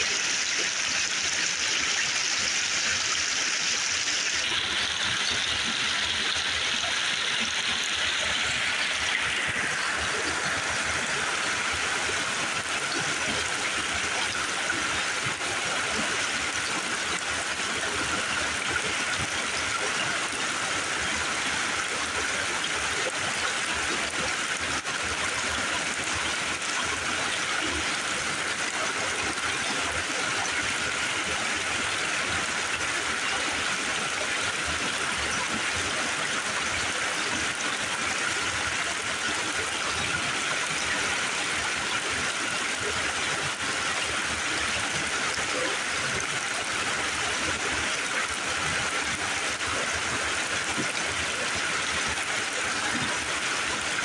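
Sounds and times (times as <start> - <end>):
creek rushing over stones: 0.0 - 54.0.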